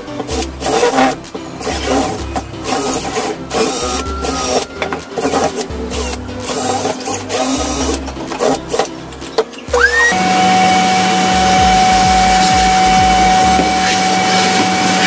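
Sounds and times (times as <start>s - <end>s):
electronic music with bass beat: 0.0s - 10.2s, 11.2s - 15.0s.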